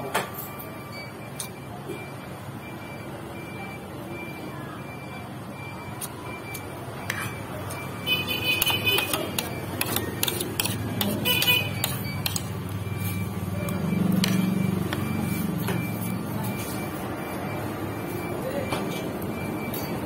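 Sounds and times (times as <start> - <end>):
short electronic beeps: 0.4 - 20.0.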